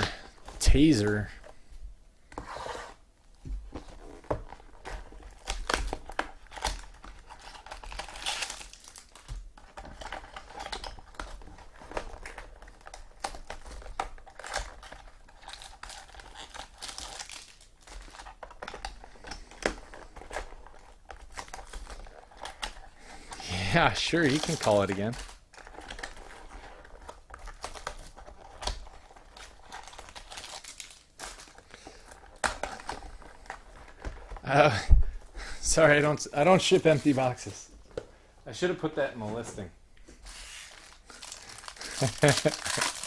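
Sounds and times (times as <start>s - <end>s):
card pack wrappers crinkling and tearing: 4.0s - 34.7s, 35.6s - 37.7s, 40.1s - 43.0s.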